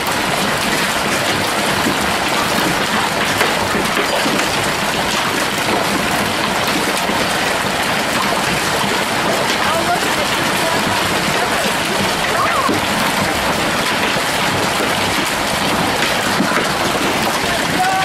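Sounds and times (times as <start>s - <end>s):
heavy hail falling: 0.0s - 18.0s.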